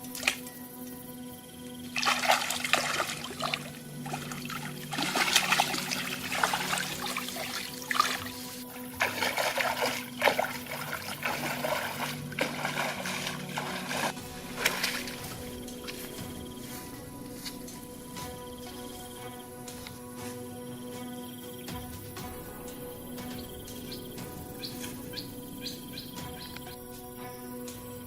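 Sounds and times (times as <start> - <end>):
water splashing and trickling: 0.0 - 28.0.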